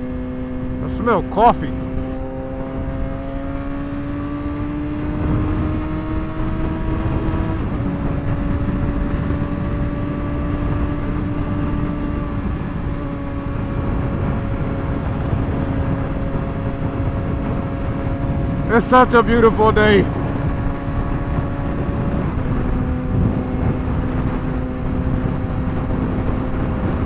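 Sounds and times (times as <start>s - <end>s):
motorcycle engine at speed: 0.0s - 18.8s, 19.4s - 27.0s
wind and road noise: 0.0s - 27.0s.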